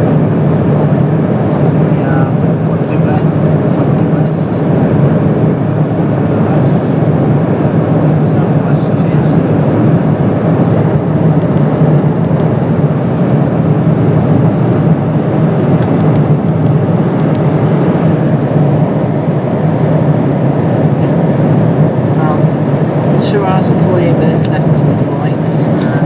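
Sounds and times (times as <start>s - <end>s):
airliner cabin noise: 0.0s - 26.0s
constant low hum: 0.0s - 26.0s.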